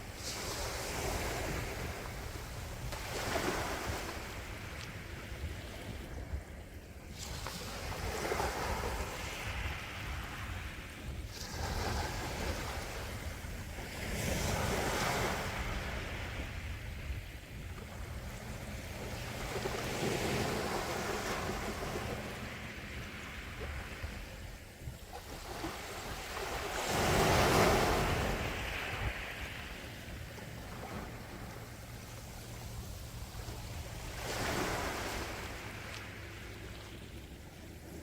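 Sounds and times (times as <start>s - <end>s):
sea waves washing onto shore: 0.0s - 38.0s.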